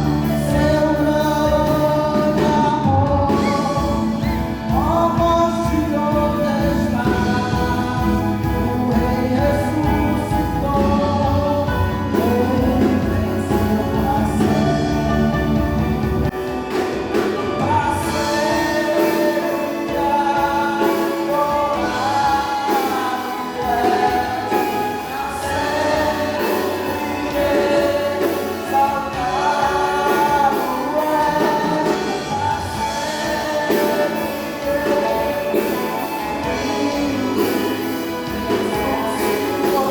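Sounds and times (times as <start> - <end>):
gospel band playing: 0.0 - 39.9
group singing: 0.0 - 39.9.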